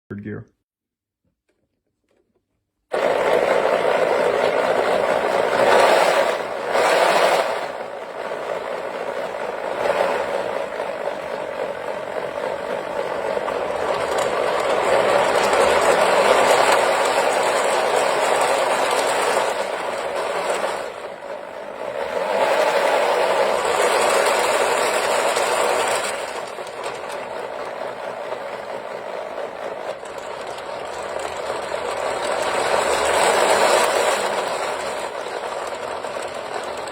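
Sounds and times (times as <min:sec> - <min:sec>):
wooden model engine clattering: 0:02.9 - 0:21.1, 0:21.9 - 0:36.9
electric drill motor whirring: 0:02.9 - 0:36.9.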